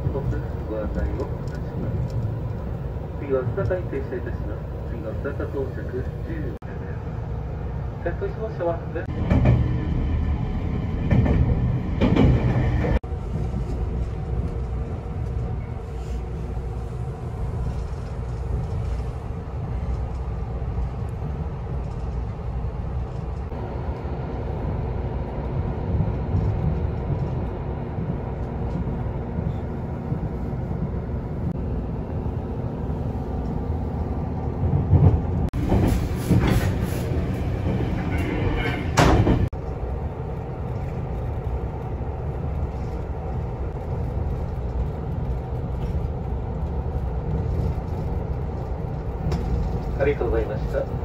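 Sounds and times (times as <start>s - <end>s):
steady train hum: 0.0s - 51.0s
train wheels rumbling on rail: 0.0s - 51.0s.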